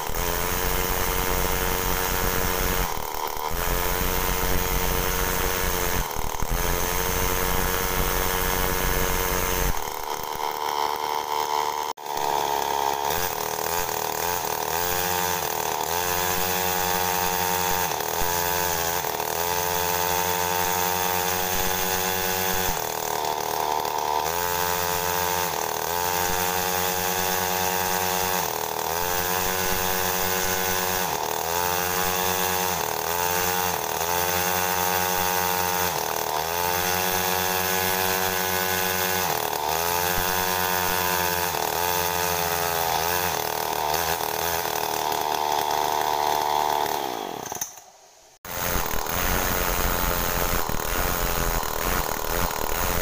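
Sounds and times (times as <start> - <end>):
two-stroke engine revving: 0.0 - 47.8, 48.4 - 53.0.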